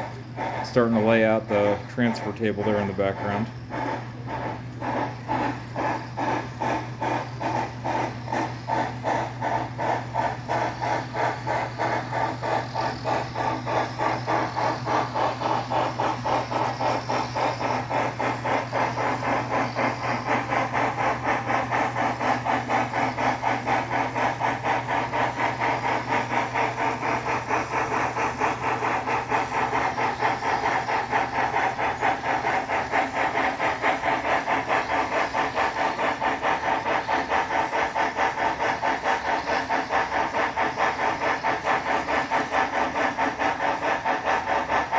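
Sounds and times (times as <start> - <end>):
electric motor hum: 0.0 - 42.2
steam locomotive exhaust chuffing: 0.0 - 44.9.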